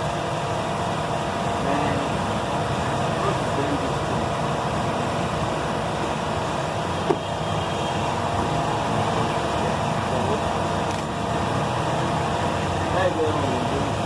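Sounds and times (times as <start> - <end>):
steady mechanical drone: 0.0 - 14.0.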